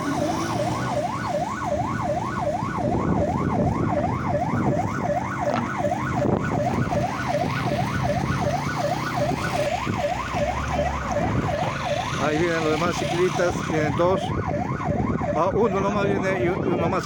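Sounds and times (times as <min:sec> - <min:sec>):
engines and road noise: 0:00.0 - 0:17.0
siren yelping: 0:00.0 - 0:17.0.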